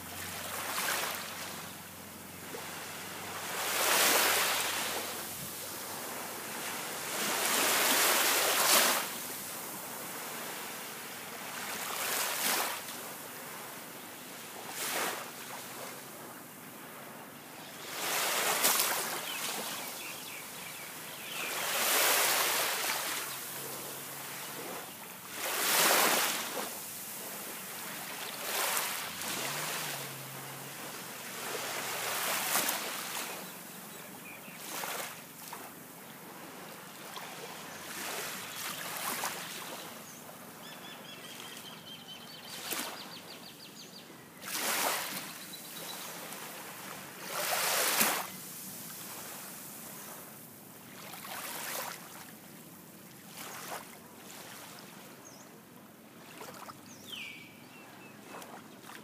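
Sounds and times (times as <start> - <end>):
small waves washing onto sand: 0.0 - 40.6, 44.4 - 55.2, 56.1 - 57.3, 58.1 - 59.0.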